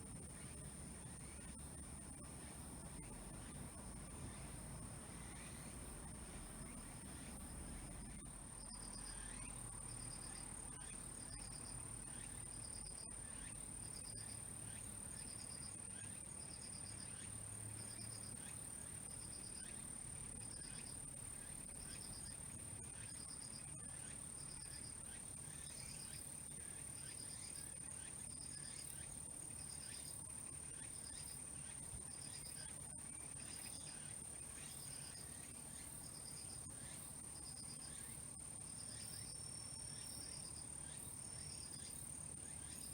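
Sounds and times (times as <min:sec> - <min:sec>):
cricket chirping: 0:00.0 - 0:42.9
insects trilling: 0:00.1 - 0:42.9.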